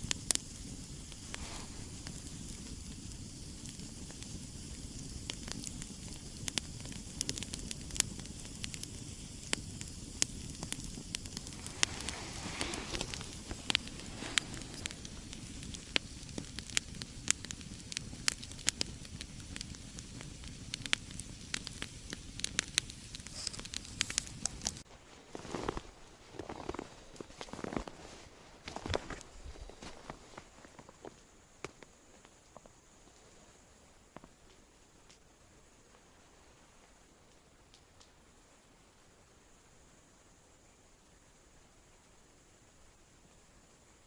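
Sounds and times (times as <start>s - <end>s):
campfire crackling: 0.0s - 44.0s
low background noise: 0.0s - 44.0s.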